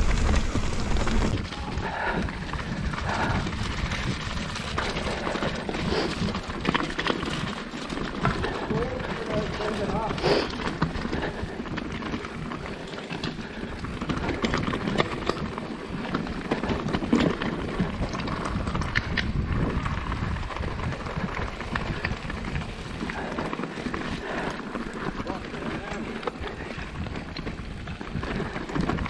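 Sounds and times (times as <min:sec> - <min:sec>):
bike knocks and rattles: 0:00.0 - 0:29.0
bike tyre and trail noise: 0:00.0 - 0:29.0.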